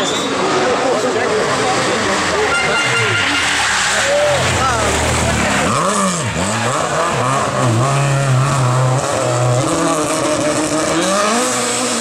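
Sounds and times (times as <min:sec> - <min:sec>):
rally car engine revving: 0:00.2 - 0:12.0.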